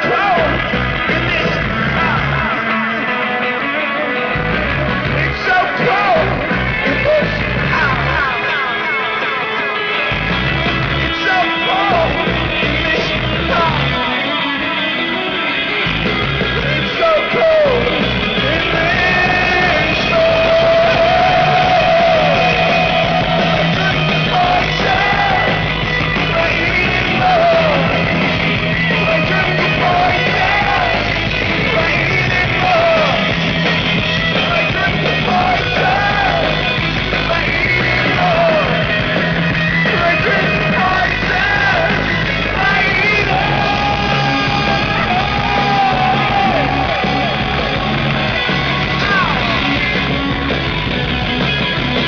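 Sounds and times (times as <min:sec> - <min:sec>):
live rock band playing: 0:00.0 - 0:52.0
man singing and yelling: 0:00.0 - 0:52.0.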